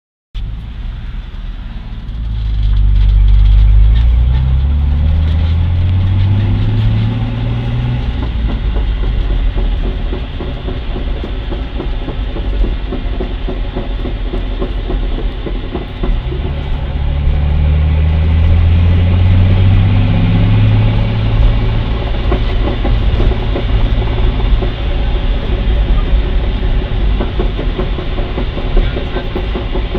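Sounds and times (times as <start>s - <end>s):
car engine revving: 0.4s - 29.9s
drivetrain clunks and rattles: 2.0s - 29.9s.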